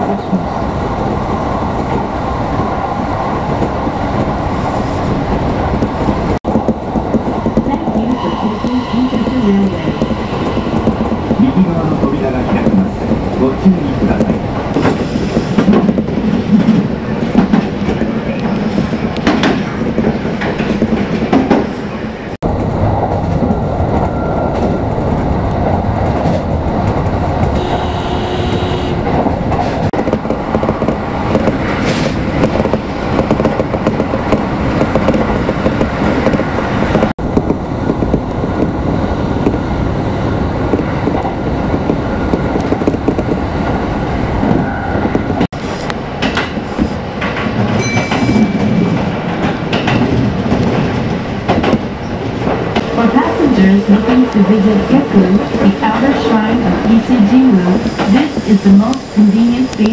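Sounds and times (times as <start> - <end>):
train wheels rumbling on rails: 0.0 - 59.9
clickety-clack over rail joints: 3.4 - 39.7, 40.6 - 59.9.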